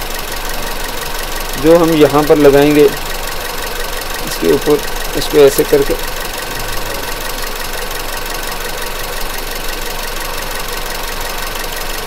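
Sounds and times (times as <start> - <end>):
misfiring car engine idling: 0.0 - 12.0.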